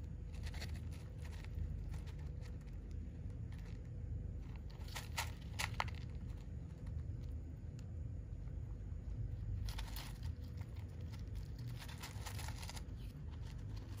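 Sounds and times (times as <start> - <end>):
dry food rustling and crackling: 0.0 - 7.9, 9.2 - 14.0.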